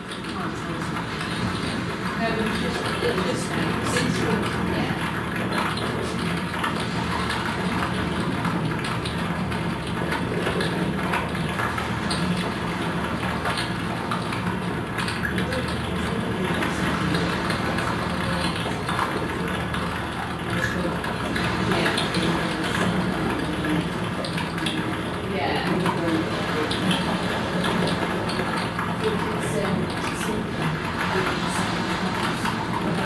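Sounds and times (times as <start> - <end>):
dense rumbling electronic drone: 0.0 - 33.0.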